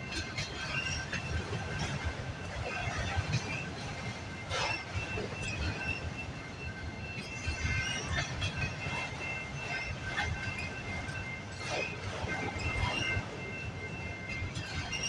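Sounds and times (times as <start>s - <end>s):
faint high wheel squeal: 0.0s - 15.0s
train wheels rumbling on rail: 0.0s - 15.0s.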